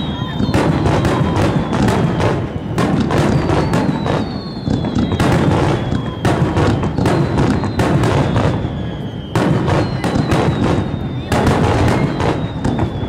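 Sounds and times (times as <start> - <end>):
firework shells bursting: 0.0 - 13.0
high whistles sliding down: 0.0 - 13.0.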